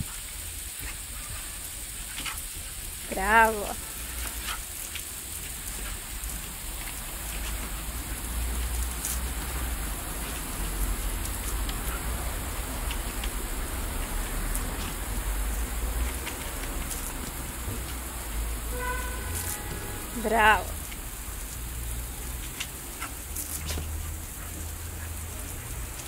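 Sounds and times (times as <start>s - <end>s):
hose water splashing on tiles: 0.0s - 26.0s.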